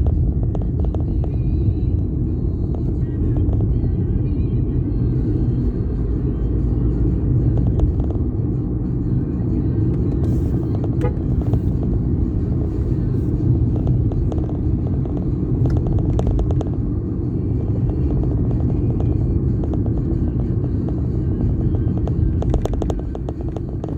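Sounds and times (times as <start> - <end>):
road traffic rumble: 0.0 - 23.9.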